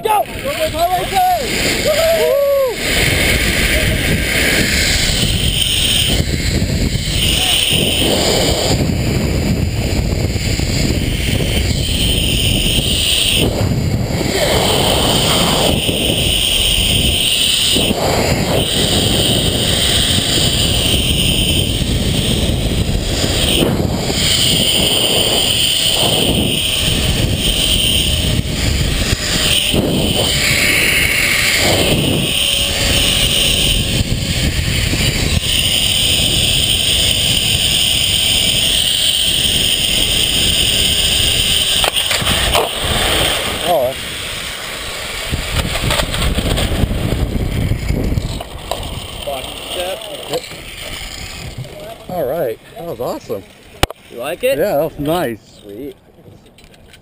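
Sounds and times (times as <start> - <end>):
wind on microphone: 0.0 - 53.2
zipline pulleys whirring on cable: 0.0 - 57.0.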